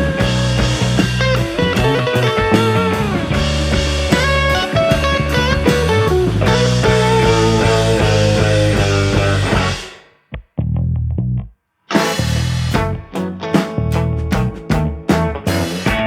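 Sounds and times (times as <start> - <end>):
electric guitars: 0.0 - 10.1, 11.9 - 16.0
drum kit: 0.0 - 10.7, 11.9 - 16.0
bass guitar: 0.0 - 16.0.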